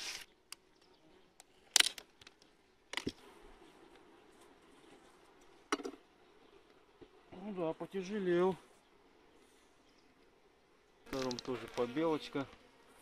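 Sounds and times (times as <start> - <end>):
honeybees humming: 0.3 - 13.0.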